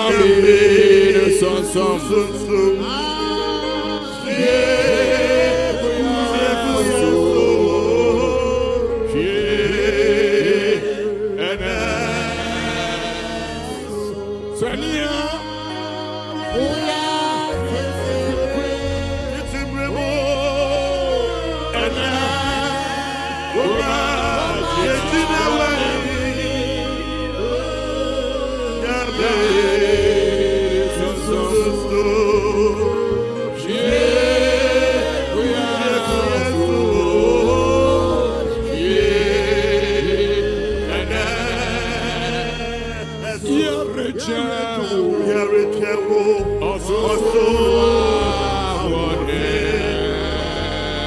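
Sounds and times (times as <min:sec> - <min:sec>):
bass line: 0:00.0 - 0:51.0
instrumental accompaniment: 0:00.0 - 0:51.0
people singing gospel: 0:00.0 - 0:51.0.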